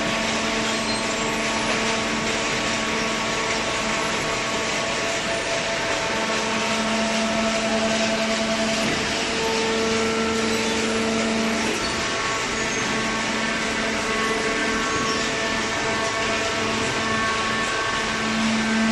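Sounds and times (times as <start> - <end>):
hydraulic baler machine hum: 0.0 - 18.9.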